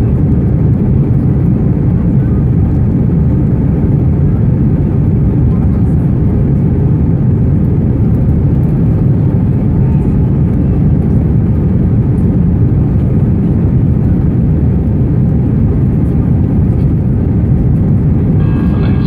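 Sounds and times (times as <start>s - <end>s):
airplane cabin engine drone: 0.0s - 19.0s.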